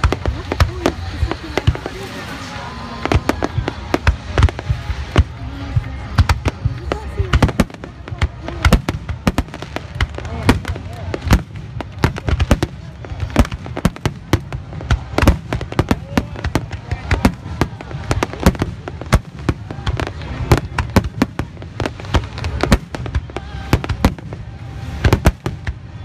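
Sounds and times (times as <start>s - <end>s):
firework bangs: 0.0s - 2.4s, 3.0s - 26.0s.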